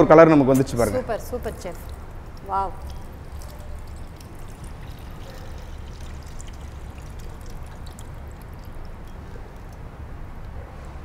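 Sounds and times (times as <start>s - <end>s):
juice trickling through mesh strainer: 1.2s - 10.6s.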